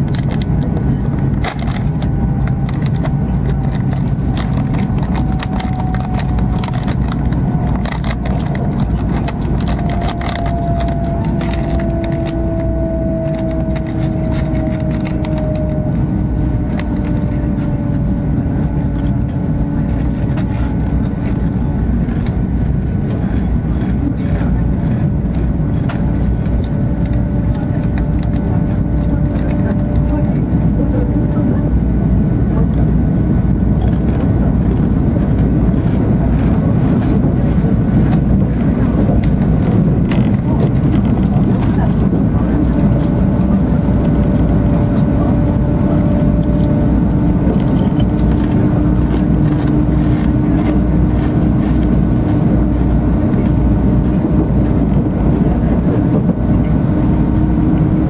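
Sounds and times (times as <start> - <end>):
train cabin rumble and rush: 0.0 - 58.0.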